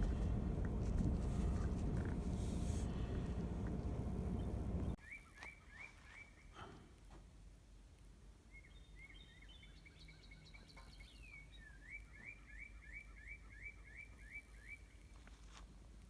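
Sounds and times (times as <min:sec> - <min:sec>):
songbird singing: 0:00.0 - 0:06.4, 0:08.5 - 0:15.0.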